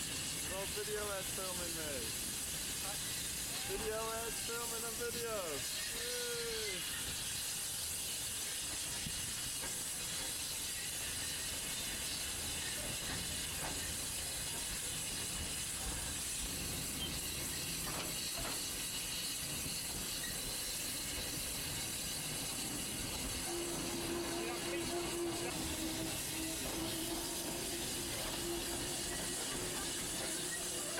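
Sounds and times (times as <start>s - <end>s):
steam train hiss and rumble: 0.0s - 30.9s.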